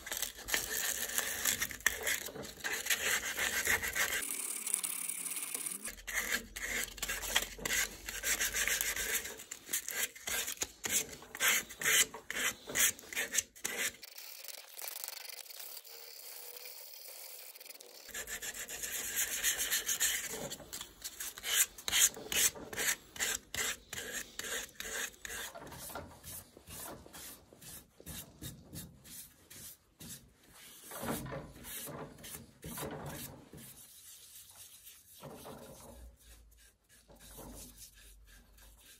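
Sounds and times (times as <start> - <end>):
sandpaper rasping on wood: 0.0 - 4.4, 5.3 - 35.2.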